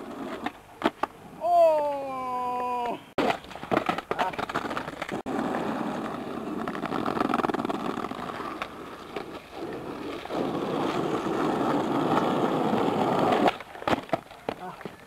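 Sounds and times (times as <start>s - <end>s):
skateboard wheels on asphalt: 0.0s - 2.1s, 3.2s - 15.0s.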